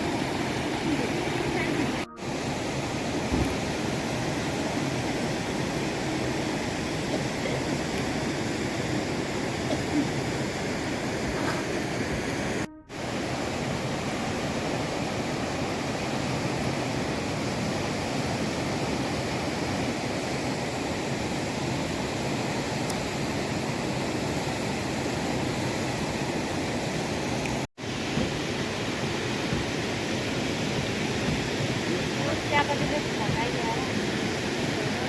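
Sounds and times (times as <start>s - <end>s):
water rushing: 0.0s - 35.0s.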